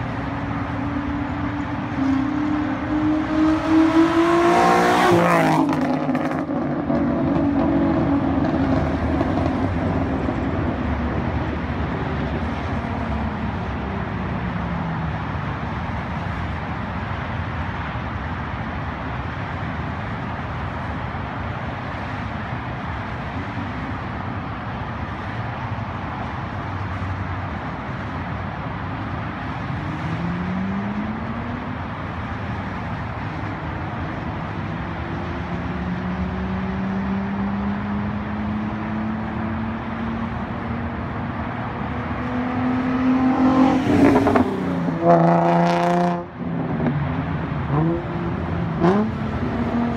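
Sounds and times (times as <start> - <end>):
car engine through loud exhaust: 0.0 - 49.9
road noise: 0.0 - 49.9.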